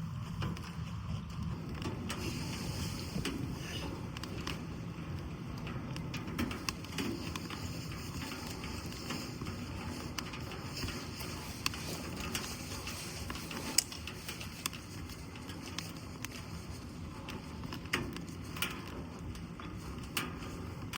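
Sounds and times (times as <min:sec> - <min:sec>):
background hiss: 0:00.0 - 0:20.9
sharp clicks and ticks: 0:04.1 - 0:20.9.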